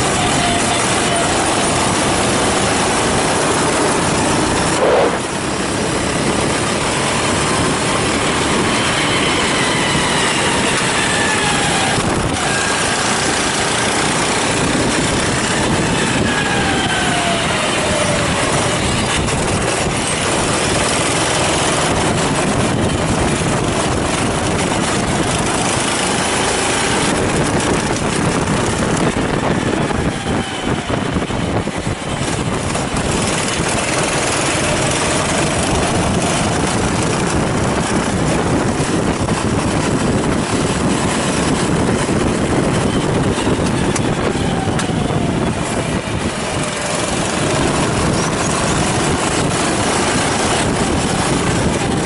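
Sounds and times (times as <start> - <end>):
kart engine running hard: 0.0 - 52.0.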